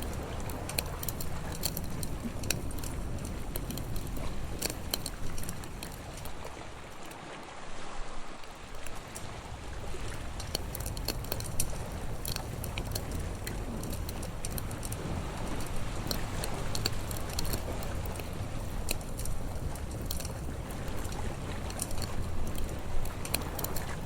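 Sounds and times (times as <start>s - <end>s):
campfire crackling and popping: 0.0s - 7.2s, 8.4s - 24.0s
sea waves rushing: 0.0s - 24.0s.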